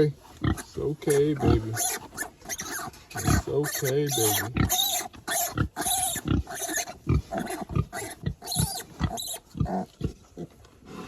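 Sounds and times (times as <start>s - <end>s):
piglet squealing: 0.5s - 9.9s.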